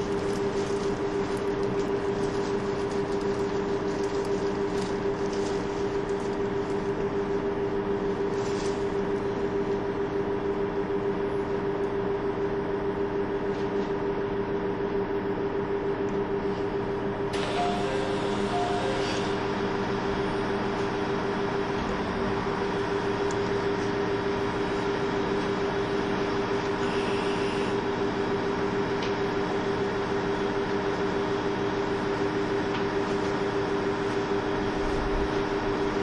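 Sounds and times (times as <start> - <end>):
diesel railcar engine drone: 0.0 - 36.0.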